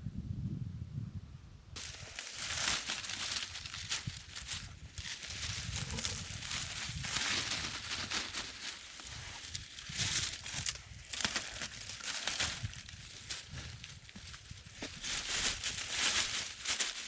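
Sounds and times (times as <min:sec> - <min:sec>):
wind rumble on microphone: 0:00.0 - 0:16.8
dry leaves rustling: 0:01.8 - 0:17.0.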